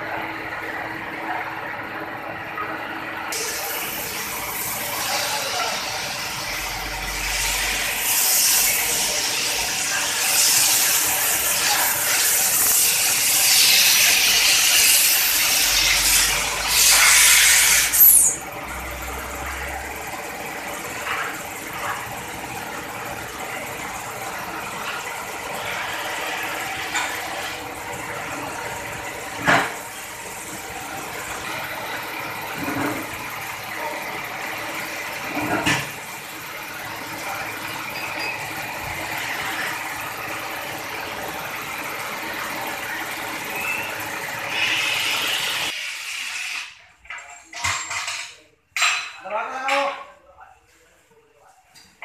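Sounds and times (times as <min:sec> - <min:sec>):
workshop machine hum: 0:00.0 - 0:49.2.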